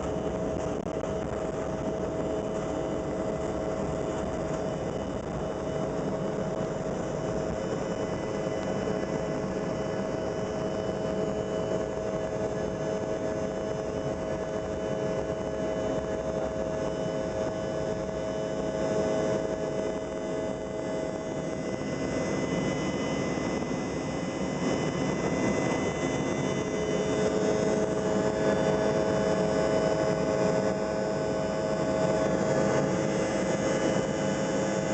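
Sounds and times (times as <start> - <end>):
jet engines roaring: 0.0 - 34.9.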